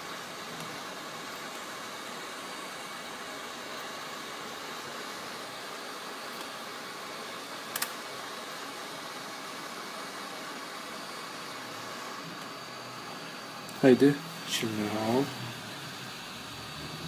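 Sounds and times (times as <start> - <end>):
hot-air rework station hissing: 0.0 - 17.0.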